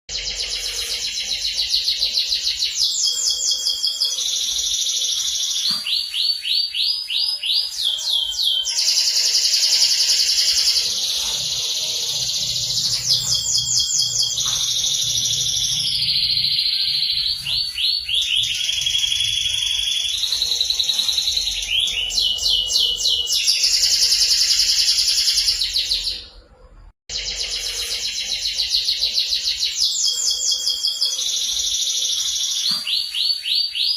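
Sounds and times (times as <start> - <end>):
canary singing trills: 0.1 - 26.4, 27.1 - 33.9.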